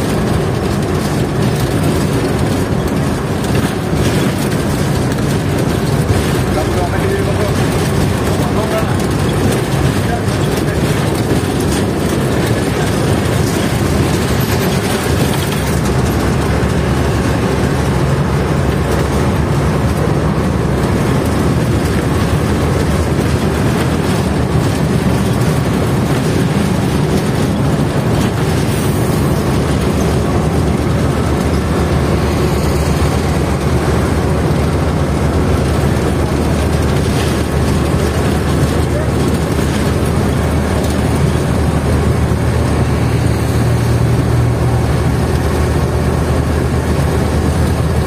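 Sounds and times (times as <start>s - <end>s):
bus engine and road noise: 0.0s - 48.0s.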